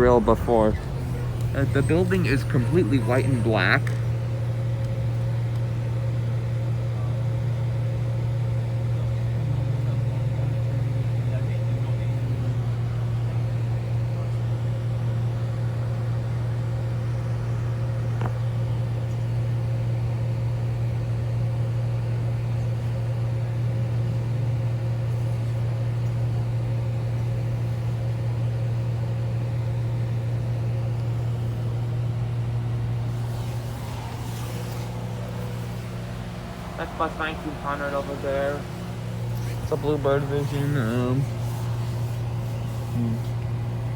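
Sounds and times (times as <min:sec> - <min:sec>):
bus interior engine drone: 0:00.0 - 0:43.9.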